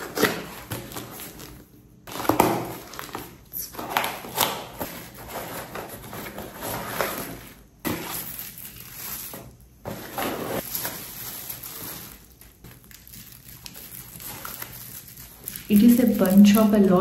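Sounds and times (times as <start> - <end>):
cardboard and packaging rustling: 0.0 - 17.0.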